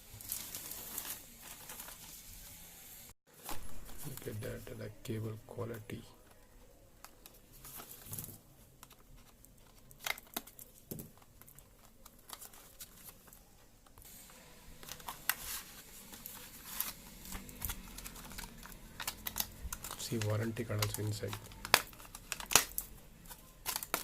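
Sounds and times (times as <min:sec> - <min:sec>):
packaging crinkling and rustling: 0:00.0 - 0:02.6, 0:06.2 - 0:24.0.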